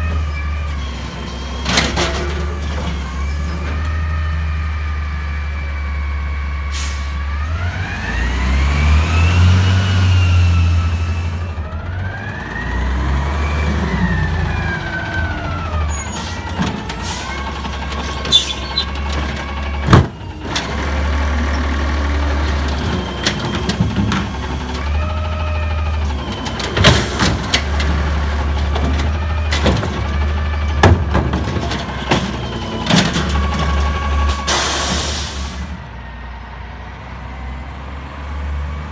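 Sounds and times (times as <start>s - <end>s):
garbage truck engine drone: 0.0s - 38.9s.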